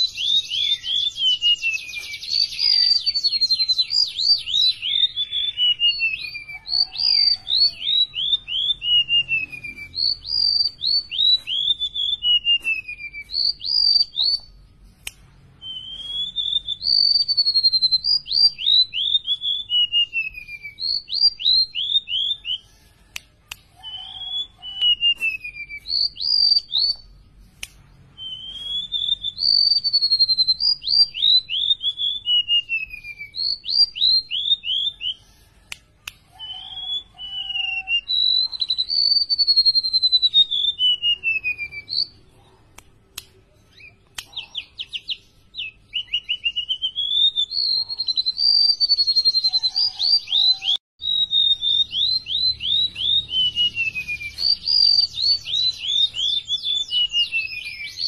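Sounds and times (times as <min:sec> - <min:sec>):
bird singing whistled notes: 0:00.0 - 0:14.6, 0:15.6 - 0:23.2, 0:23.8 - 0:27.2, 0:28.1 - 0:35.7, 0:36.4 - 0:42.2, 0:43.7 - 0:58.0.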